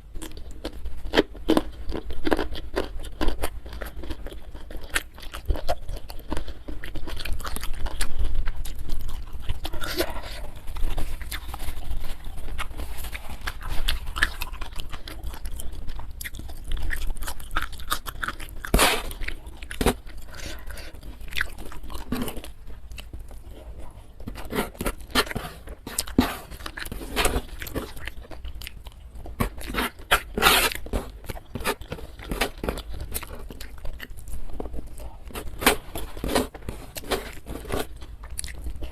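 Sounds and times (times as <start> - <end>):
person chewing crisp food: 0.0 - 38.9.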